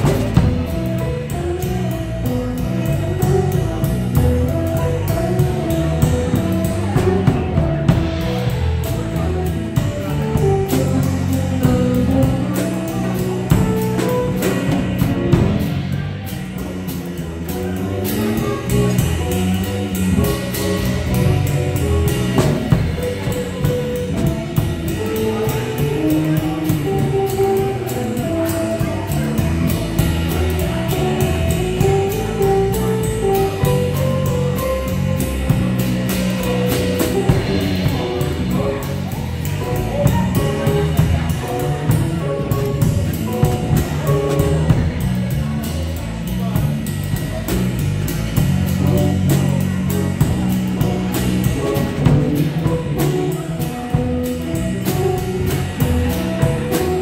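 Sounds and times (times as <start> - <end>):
drums and cymbals: 0.0 - 57.0
electric bass: 0.0 - 57.0.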